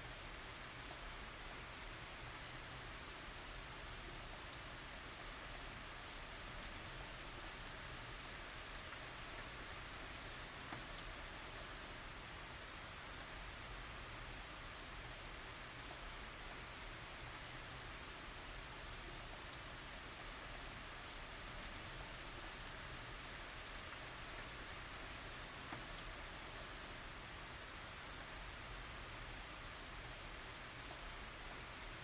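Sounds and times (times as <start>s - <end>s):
rain falling: 0.0s - 32.0s
raindrops pattering on surfaces: 0.0s - 32.0s.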